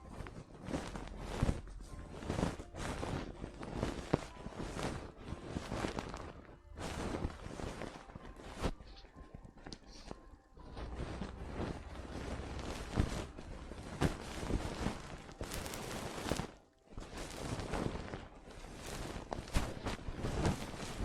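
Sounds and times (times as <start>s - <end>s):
asmr crackling and scratching: 0.0s - 21.0s.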